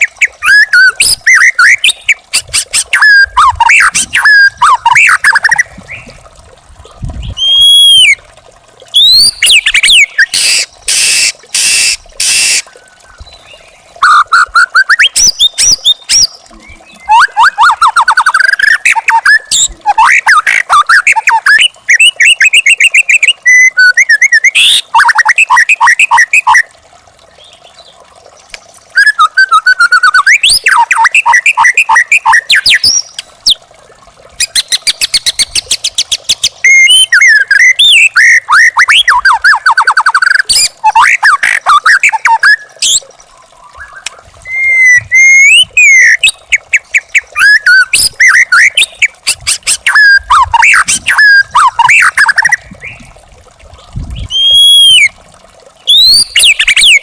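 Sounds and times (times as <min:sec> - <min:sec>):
songbird singing varied phrases: 0:00.0 - 0:06.2, 0:07.2 - 0:08.2, 0:08.9 - 0:26.7, 0:27.3 - 0:33.6, 0:34.4 - 0:53.2, 0:53.9 - 0:55.2, 0:55.8 - 0:57.0.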